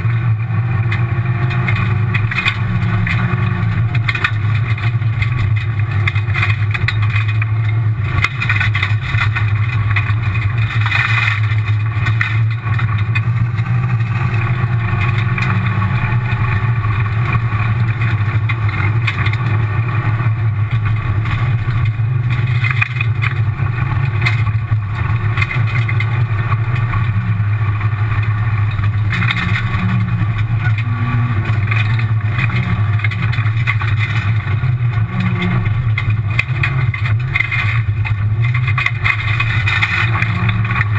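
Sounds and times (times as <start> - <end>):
car engine running hard: 0.0 - 40.9
tyre and gravel road noise: 0.0 - 40.9.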